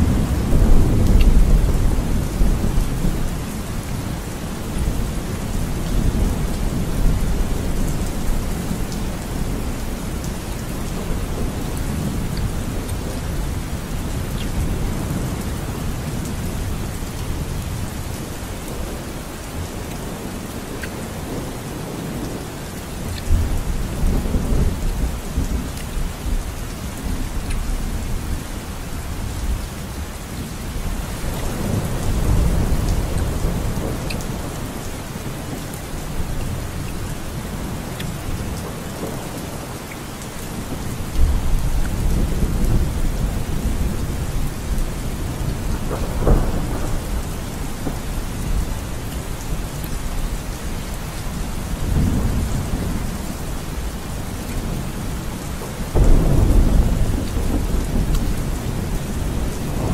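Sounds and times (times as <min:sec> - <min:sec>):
thunder rumbles: 0:00.0 - 0:20.6, 0:23.2 - 0:39.8, 0:40.5 - 0:59.9
steady rain: 0:00.0 - 0:59.9.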